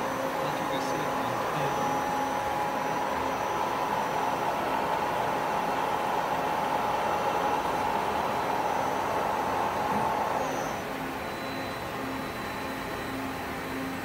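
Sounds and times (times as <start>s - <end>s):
machine whine: 0.0s - 14.0s.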